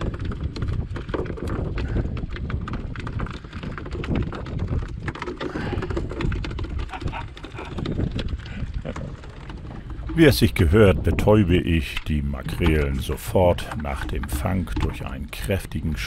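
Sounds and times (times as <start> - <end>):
tapping and knocking on boat: 0.0 - 16.0
wind rumble on microphone: 0.0 - 16.0.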